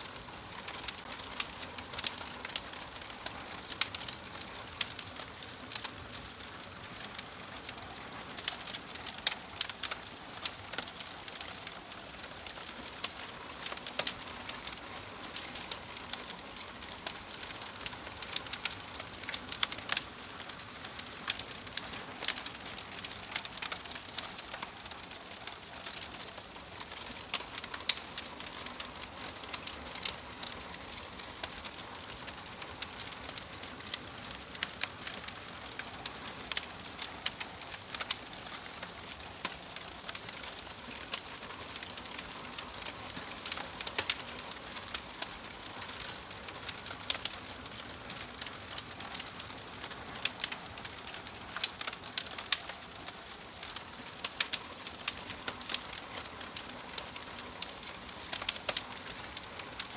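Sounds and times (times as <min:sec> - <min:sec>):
soft fire hiss: 0:00.0 - 0:59.9
wood fire crackling and popping: 0:00.0 - 0:59.9.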